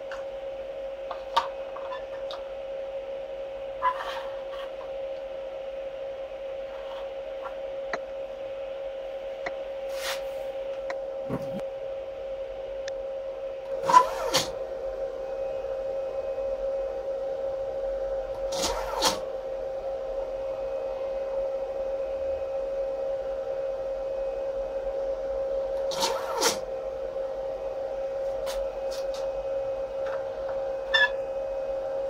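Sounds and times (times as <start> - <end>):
stepper motors humming: 0.0 - 32.0.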